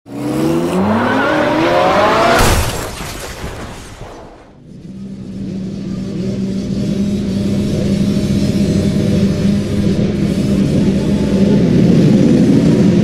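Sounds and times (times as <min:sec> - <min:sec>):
engine revving: 0:00.1 - 0:02.6, 0:04.6 - 0:13.0.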